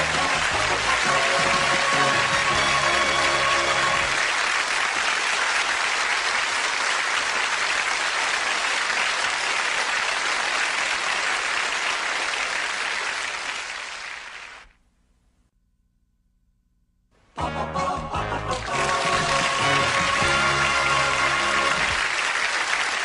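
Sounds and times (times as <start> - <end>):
audience applauding: 0.0 - 14.8, 18.5 - 23.0.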